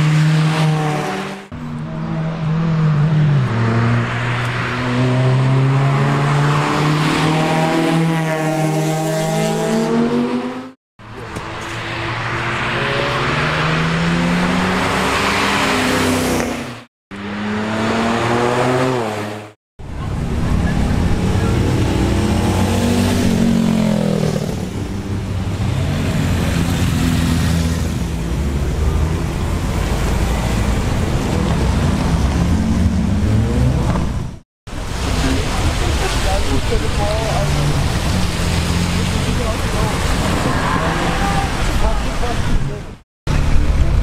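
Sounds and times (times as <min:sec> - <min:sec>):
car engines revving and accelerating: 0:00.0 - 0:44.0.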